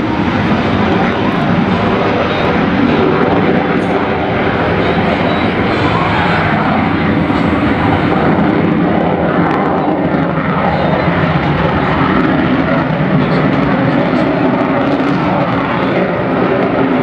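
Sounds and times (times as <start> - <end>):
aircraft engine flying past: 0.0 - 17.0.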